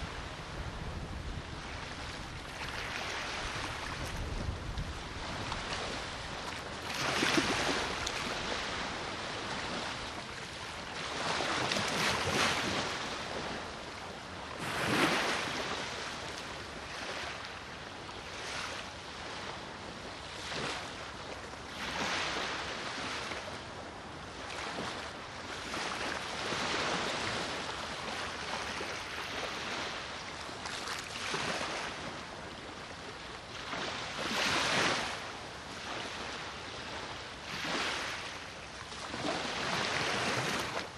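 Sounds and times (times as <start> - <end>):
small waves breaking on shore: 0.0 - 40.9
steady wind: 0.0 - 40.9.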